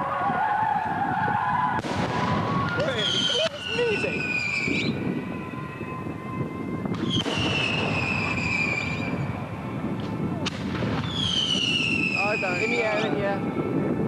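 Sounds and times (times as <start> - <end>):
falling firework whistle: 0.0 - 13.4
constant low rumble: 0.0 - 14.0
firework bangs: 0.5 - 5.9, 6.6 - 13.3.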